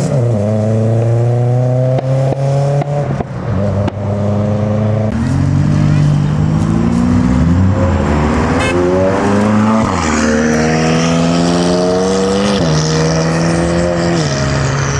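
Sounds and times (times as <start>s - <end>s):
car engine accelerating hard: 0.0s - 14.9s.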